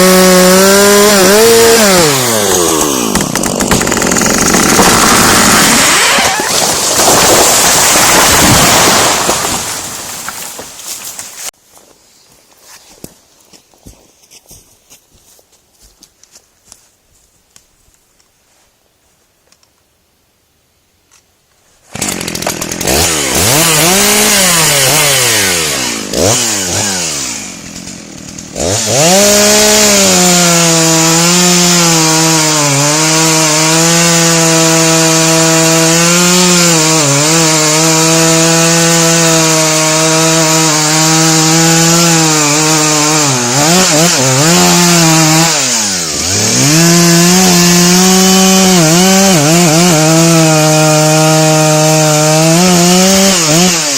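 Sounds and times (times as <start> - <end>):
chainsaw sawing wood: 0.0 - 11.5, 21.8 - 53.9.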